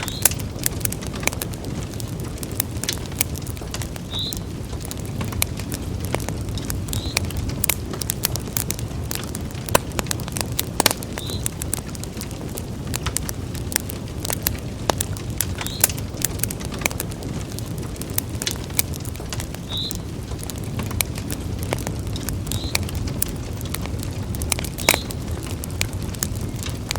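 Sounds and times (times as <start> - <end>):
low rumble of flames: 0.0 - 26.9
wood fire crackling and popping: 0.0 - 26.9.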